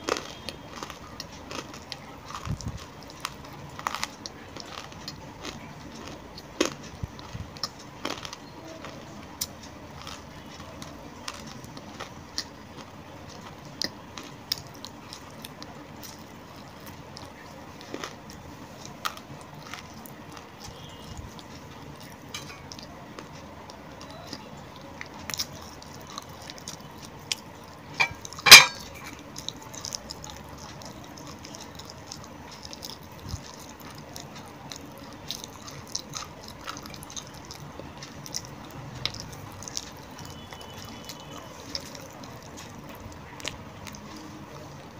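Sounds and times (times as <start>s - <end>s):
person chewing hard food: 0.0s - 44.9s.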